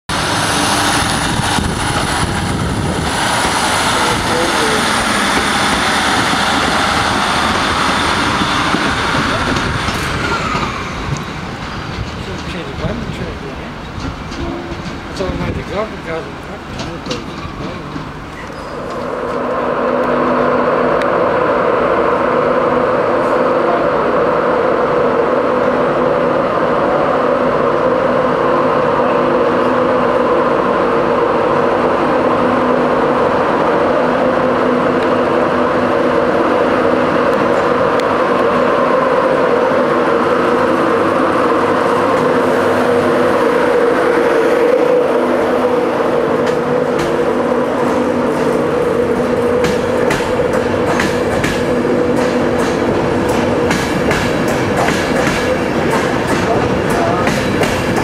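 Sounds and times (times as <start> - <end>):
electric locomotive drone: 0.1 - 58.0.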